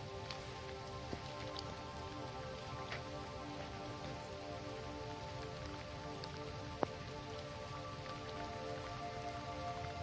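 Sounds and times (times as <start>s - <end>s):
heavy rain on a road: 0.0s - 10.0s
soft sustained tones: 0.0s - 10.0s.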